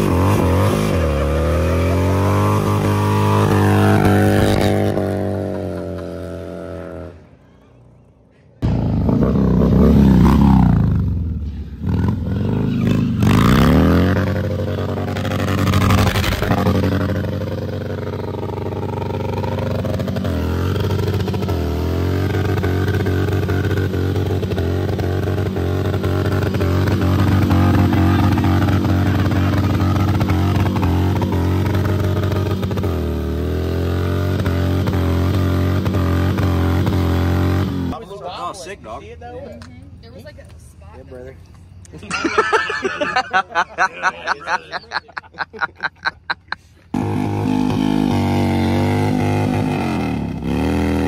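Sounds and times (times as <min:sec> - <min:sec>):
motorcycle engine revving and idling: 0:00.0 - 0:07.4, 0:08.6 - 0:38.0, 0:45.9 - 0:51.0.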